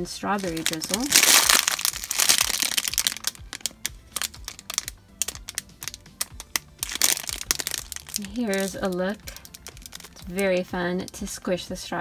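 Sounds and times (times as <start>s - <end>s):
quiet background music: 0.0s - 12.0s
plastic packaging crinkling: 0.3s - 10.4s.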